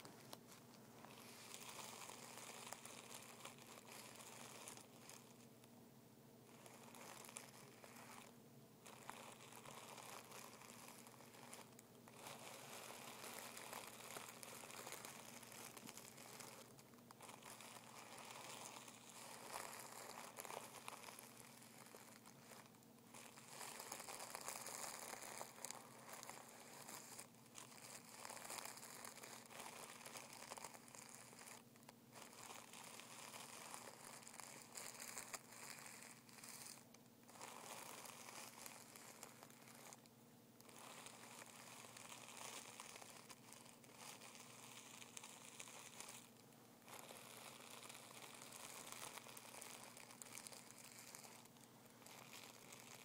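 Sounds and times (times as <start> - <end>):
tissue paper crinkling: 0.0 - 5.6, 6.5 - 53.0.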